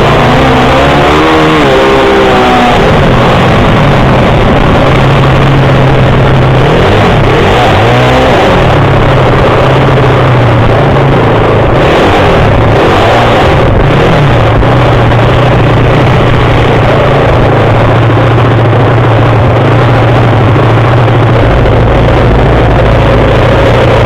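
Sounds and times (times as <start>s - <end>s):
deep rumble: 0.0s - 24.0s.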